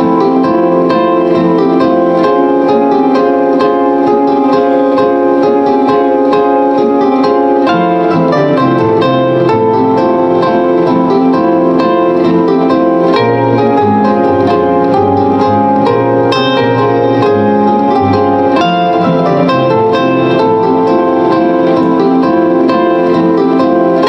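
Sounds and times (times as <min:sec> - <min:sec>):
solo plucked instrument music: 0:00.0 - 0:24.0.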